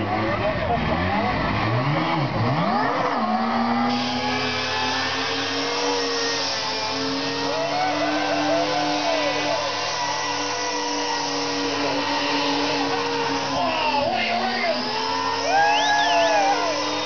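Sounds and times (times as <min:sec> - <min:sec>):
rotary engine revving: 0:00.0 - 0:17.0.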